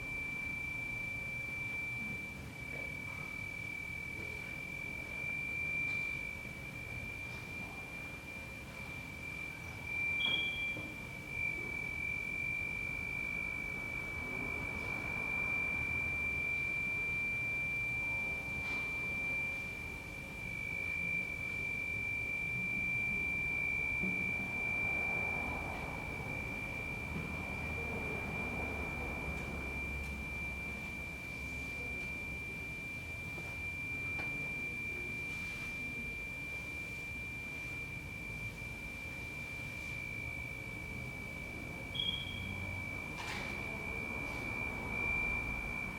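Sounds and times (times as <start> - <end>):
high-pitched pure tone: 0.0 - 45.9.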